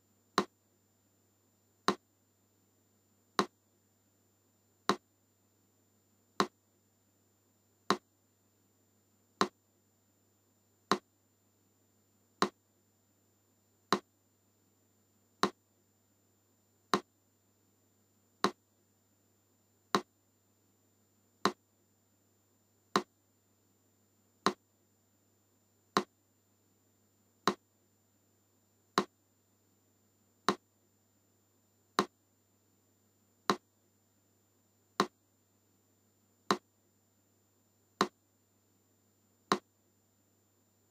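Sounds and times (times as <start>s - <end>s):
faint hum: 0.0s - 40.9s.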